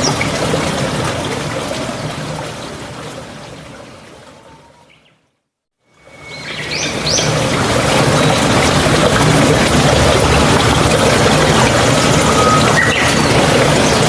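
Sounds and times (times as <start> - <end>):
stream water trickling: 0.0 - 5.2, 5.8 - 14.0.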